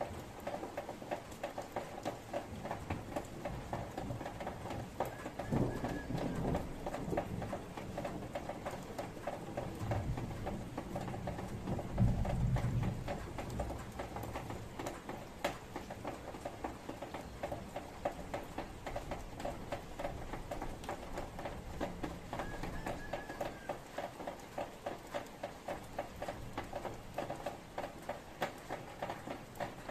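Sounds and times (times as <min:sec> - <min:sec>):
rain pattering: 0:00.0 - 0:29.9.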